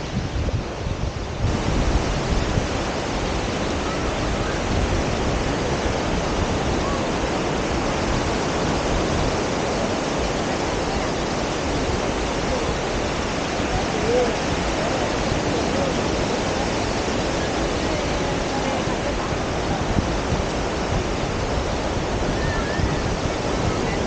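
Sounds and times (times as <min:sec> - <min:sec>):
small waves breaking on shore: 0:00.0 - 0:24.0.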